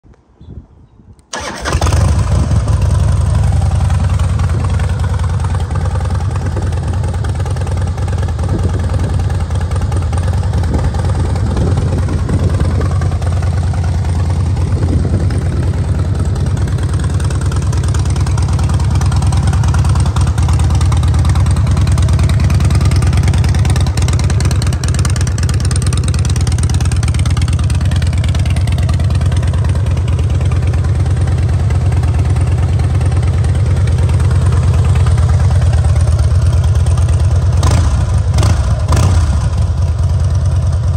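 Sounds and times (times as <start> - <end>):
motorcycle engine starting and idling: 1.2 - 40.9.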